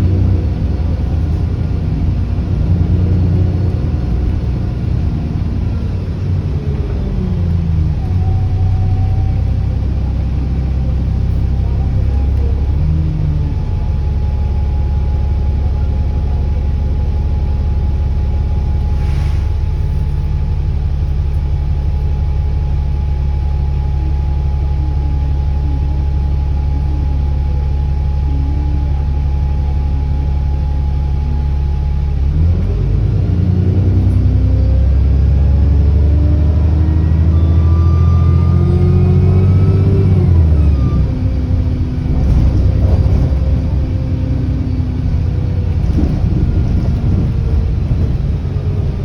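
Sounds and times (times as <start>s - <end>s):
bus diesel engine with turbo whine: 0.0s - 49.0s.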